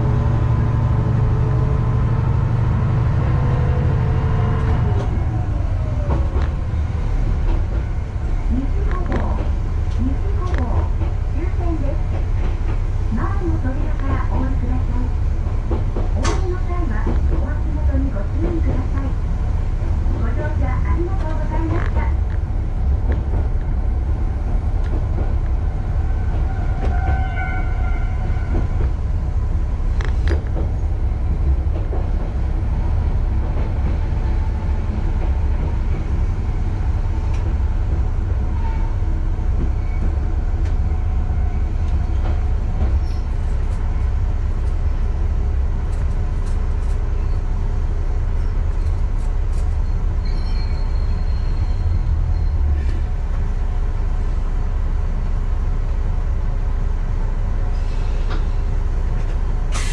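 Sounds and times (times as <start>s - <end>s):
diesel railcar rumbling: 0.0s - 59.9s.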